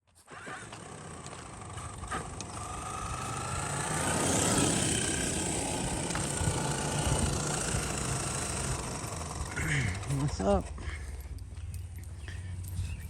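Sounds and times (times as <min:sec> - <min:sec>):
tyre noise: 0:00.1 - 0:13.0
electric motor whining: 0:00.3 - 0:10.8.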